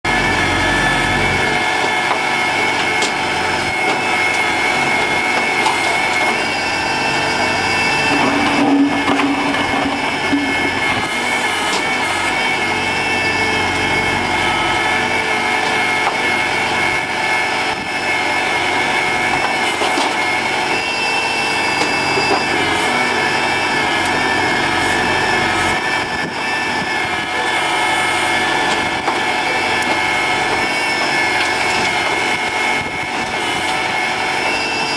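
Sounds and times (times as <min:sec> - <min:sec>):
diesel engine running: 0:00.0 - 0:34.9
backhoe digging soil: 0:00.1 - 0:34.9.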